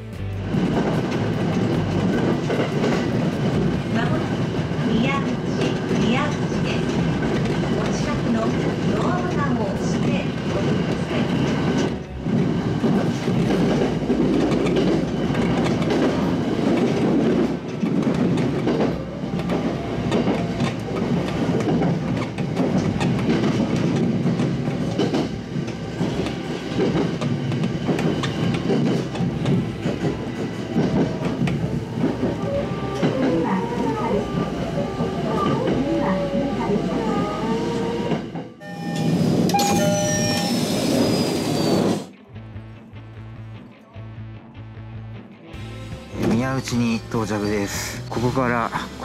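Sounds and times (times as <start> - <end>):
train wheels rumbling on track: 0.0 - 42.3.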